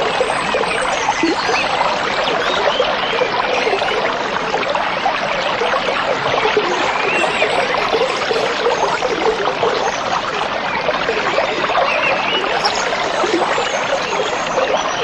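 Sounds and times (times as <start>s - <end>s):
stream babbling over stones: 0.0s - 15.0s.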